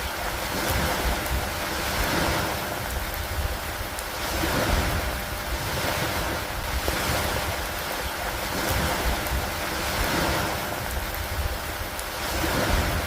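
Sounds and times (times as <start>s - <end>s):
steady rain: 0.0s - 13.0s
wind: 0.0s - 13.0s.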